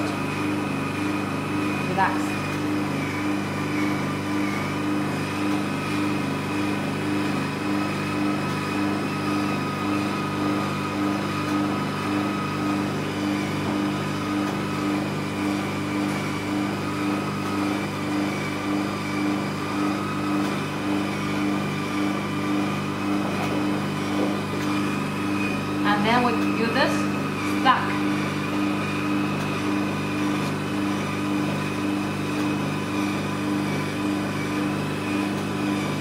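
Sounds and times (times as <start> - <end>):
machine humming with rapid pulsing: 0.0 - 36.0.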